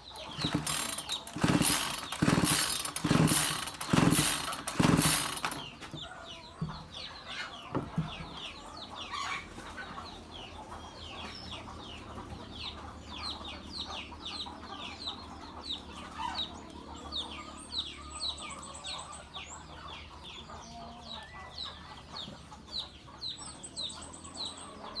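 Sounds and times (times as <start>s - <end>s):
birds chirping: 0.0s - 25.0s
chickens clucking: 0.0s - 25.0s.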